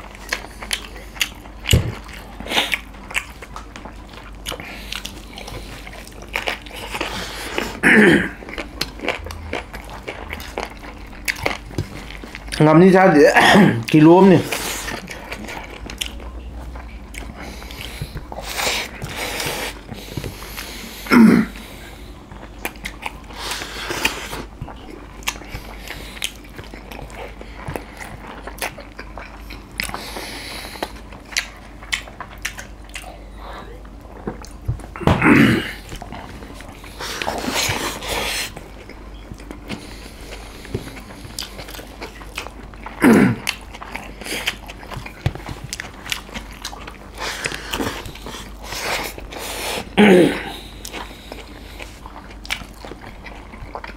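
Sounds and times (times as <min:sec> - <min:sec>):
chewing and lip smacks: 0:00.0 - 0:07.8, 0:08.4 - 0:12.7, 0:13.8 - 0:20.9, 0:21.6 - 0:35.0, 0:35.8 - 0:50.0, 0:50.6 - 0:53.9.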